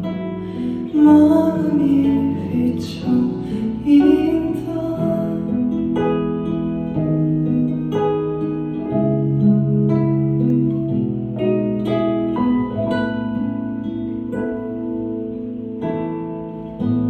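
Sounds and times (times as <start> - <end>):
plucked string chords: 0.0 - 17.0.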